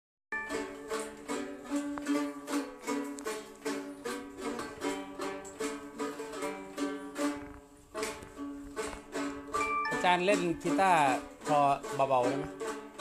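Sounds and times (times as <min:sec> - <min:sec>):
plucked string folk melody: 0:00.3 - 0:13.0.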